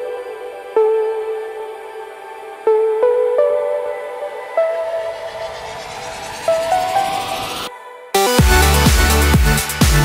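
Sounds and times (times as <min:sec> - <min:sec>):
background music held melodic note: 0:00.0 - 0:10.0.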